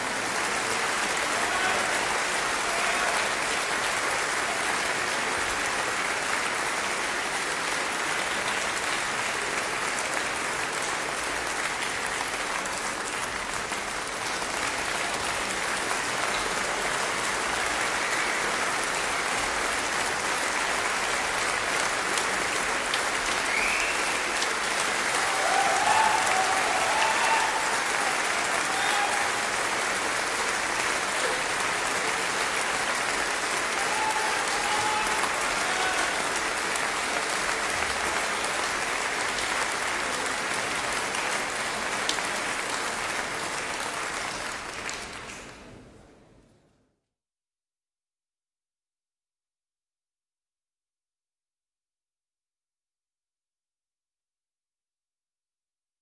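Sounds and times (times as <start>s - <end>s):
audience applauding: 0.0s - 45.8s.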